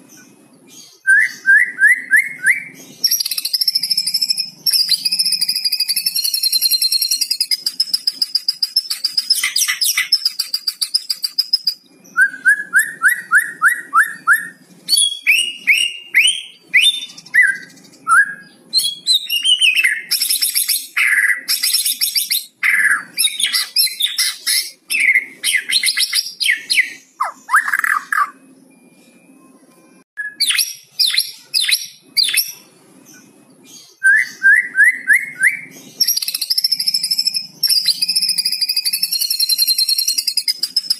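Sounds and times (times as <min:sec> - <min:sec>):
songbird singing trills and whistles: 0:00.2 - 0:40.9.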